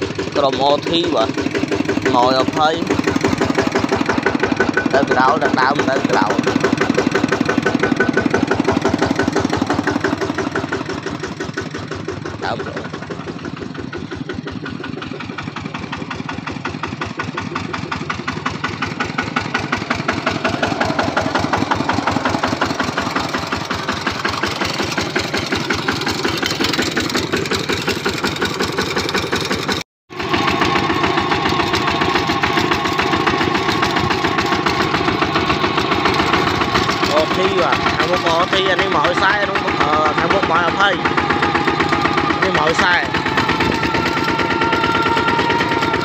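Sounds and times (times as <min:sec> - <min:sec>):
diesel tractor engine running: 0:00.0 - 0:46.0.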